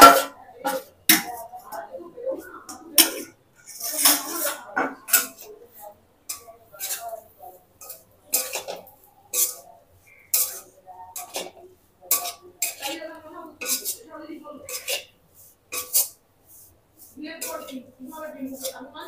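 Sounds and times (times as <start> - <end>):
metal spatula scraping a wok: 0.0 - 1.8, 2.7 - 19.0.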